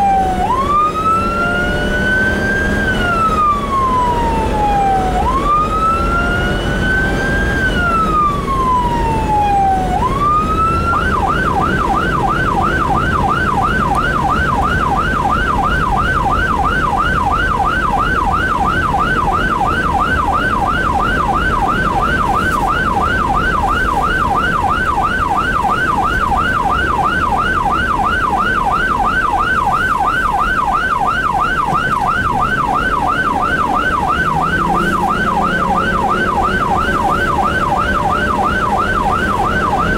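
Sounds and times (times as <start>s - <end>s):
electronic siren wailing and yelping: 0.0s - 39.9s
engine and road rumble: 0.0s - 39.9s.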